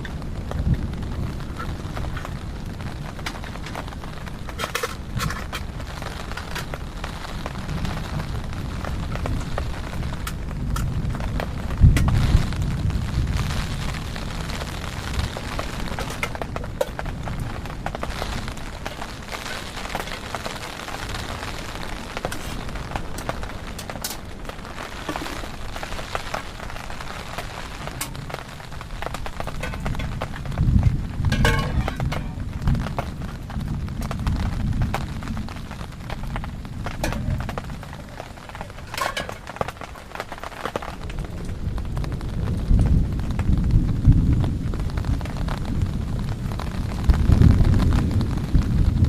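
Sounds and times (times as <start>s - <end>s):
steady low rumble: 0.0s - 40.1s
heavy rain falling: 0.0s - 49.0s
sharp raindrop taps: 0.0s - 49.0s.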